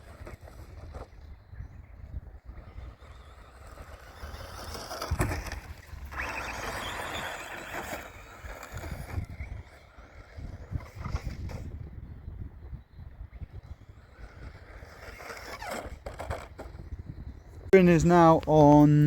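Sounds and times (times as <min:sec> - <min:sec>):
rc car motor and tyres rushing: 0:00.0 - 0:18.8.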